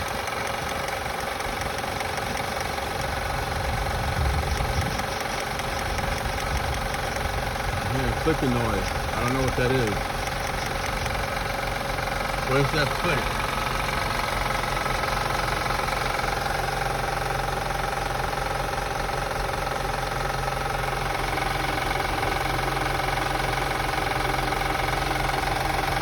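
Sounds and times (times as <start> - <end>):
car engine idling: 0.0 - 26.0
fine rapid clicking from engine: 0.0 - 26.0.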